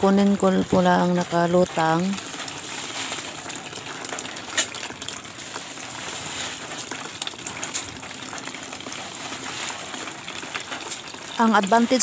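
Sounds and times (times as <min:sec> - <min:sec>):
rice grains ticking: 0:00.0 - 0:12.0
water sloshing in a basin: 0:00.1 - 0:12.0.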